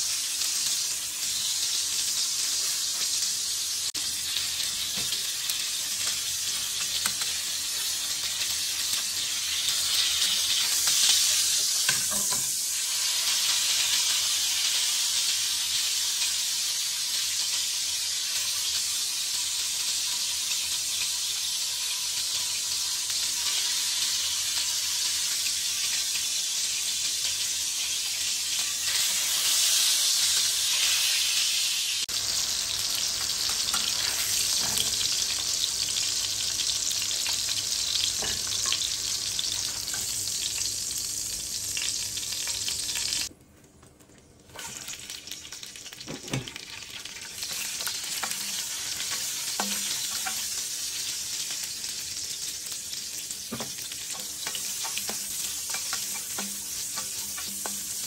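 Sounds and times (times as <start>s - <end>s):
meat frying in hot oil: 0.0s - 43.3s, 44.4s - 58.0s.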